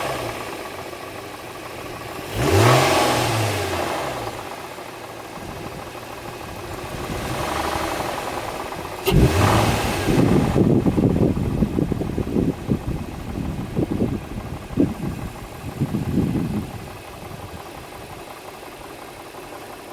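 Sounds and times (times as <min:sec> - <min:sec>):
car engine running: 0:00.0 - 0:19.9
uneven low engine rumbling: 0:00.0 - 0:19.9.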